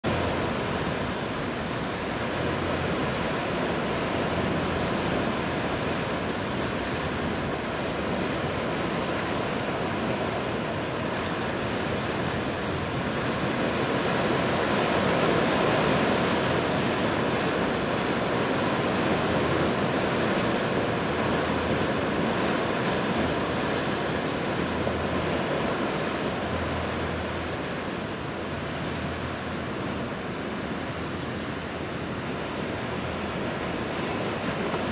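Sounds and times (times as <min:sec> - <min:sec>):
sea waves washing: 0:00.0 - 0:34.9.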